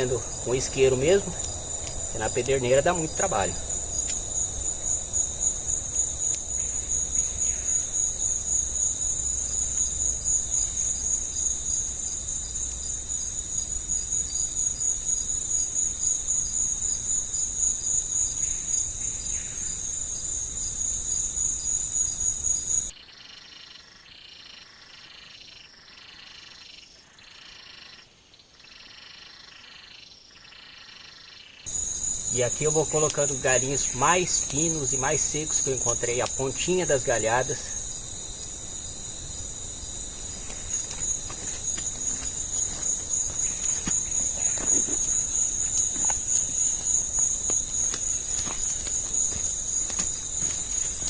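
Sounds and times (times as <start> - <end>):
insects buzzing high-pitched: 0.0 - 51.0
pulsing insect or frog chorus: 0.0 - 51.0.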